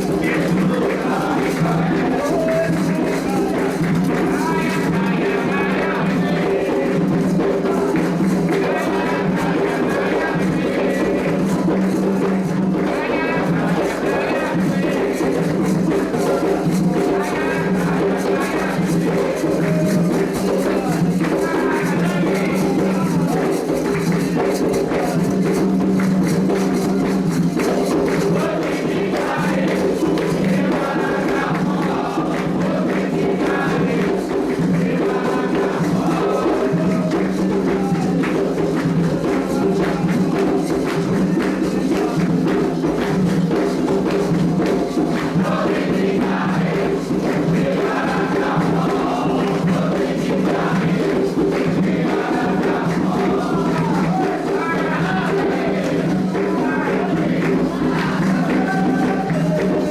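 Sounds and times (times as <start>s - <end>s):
fast hand percussion: 0.0s - 59.9s
group singing a chant: 0.0s - 59.9s.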